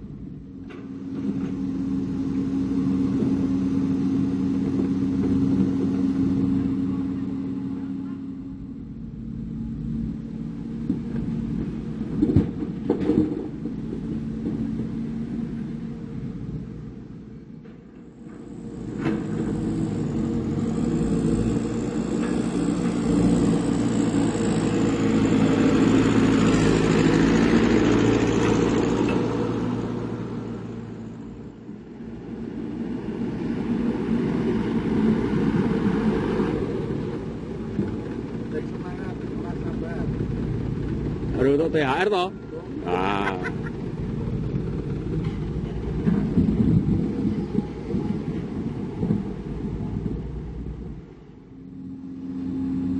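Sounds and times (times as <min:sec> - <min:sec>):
diesel machinery engine running: 0:00.0 - 0:52.9.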